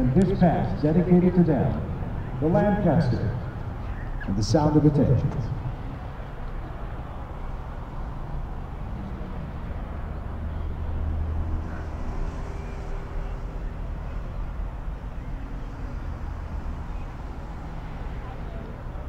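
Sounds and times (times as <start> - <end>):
aircraft piston engines droning: 0.0 - 19.0.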